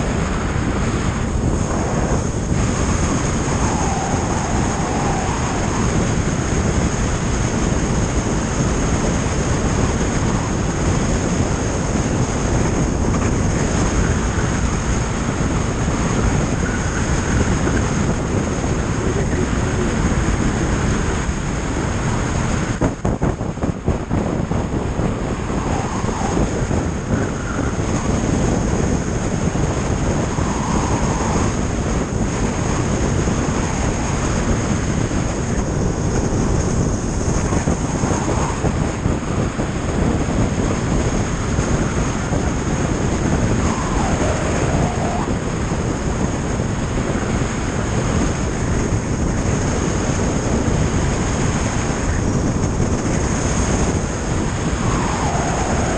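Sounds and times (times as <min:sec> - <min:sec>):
wind buffeting from passing truck: 0:00.0 - 0:55.9
wind rushing over camera: 0:00.0 - 0:55.9.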